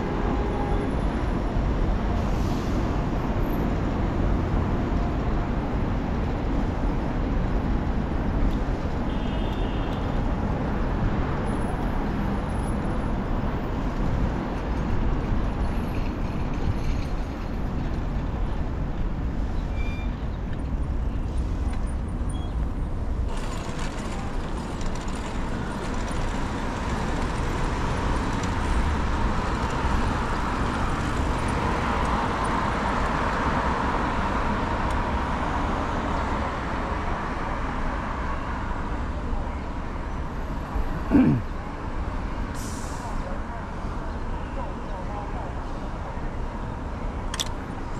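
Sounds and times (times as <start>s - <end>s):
city road traffic rumble: 0.0s - 47.9s.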